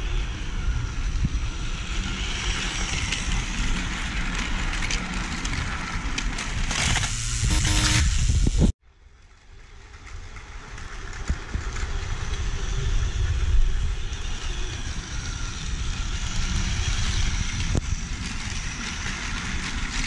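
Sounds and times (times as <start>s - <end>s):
toy train motor whir: 0.0s - 8.5s, 10.8s - 20.0s.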